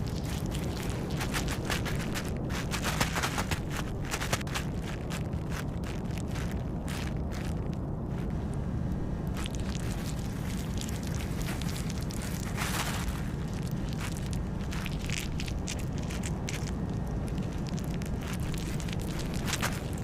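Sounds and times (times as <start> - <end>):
crackling in dry leaves: 0.0 - 20.0
low wind-like rumble: 0.0 - 20.0.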